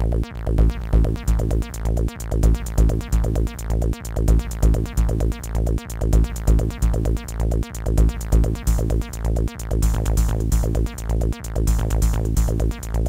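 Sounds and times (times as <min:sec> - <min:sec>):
electronic tracker music: 0:00.0 - 0:13.0.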